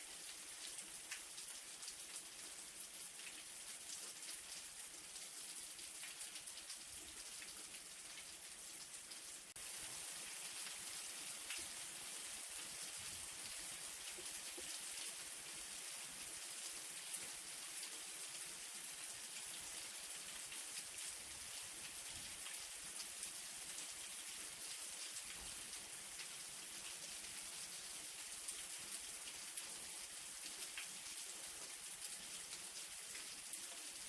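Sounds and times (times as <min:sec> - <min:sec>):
light rain pattering: 0:00.0 - 0:34.0.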